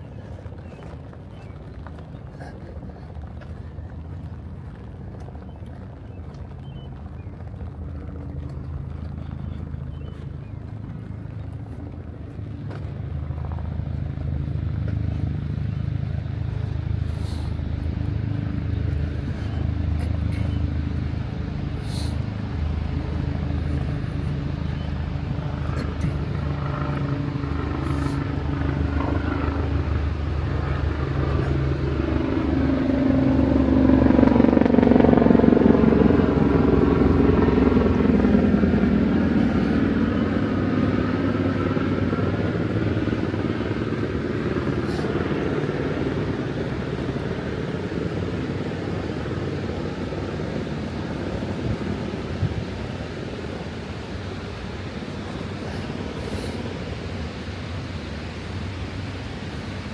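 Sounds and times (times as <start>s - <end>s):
traffic hum: 0.0s - 59.9s
vehicle passing: 7.6s - 59.9s.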